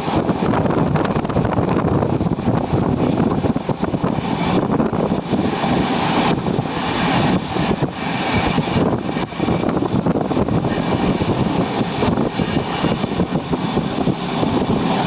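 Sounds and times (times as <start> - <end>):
train wheels rumbling on rails: 0.0 - 15.0
wind rushing past: 0.0 - 15.0.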